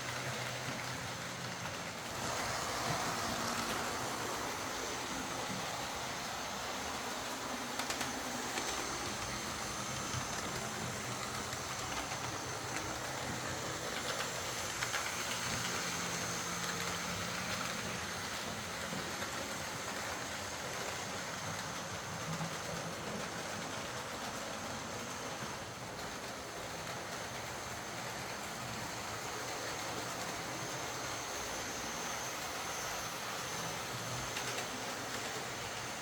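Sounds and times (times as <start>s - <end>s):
wheels rolling on track: 0.0s - 36.0s
model train motor whining: 0.1s - 36.0s.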